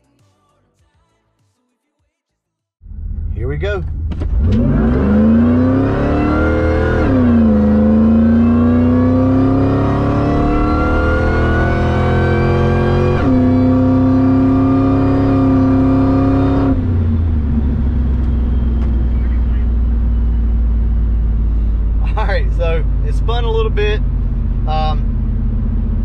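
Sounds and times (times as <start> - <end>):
truck engine accelerating: 2.8 - 26.0.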